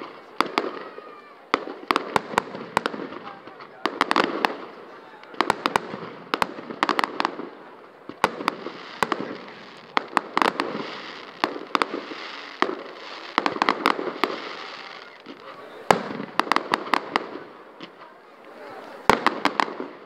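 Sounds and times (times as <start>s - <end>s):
fireworks bursting with sharp bangs: 0.0s - 20.0s.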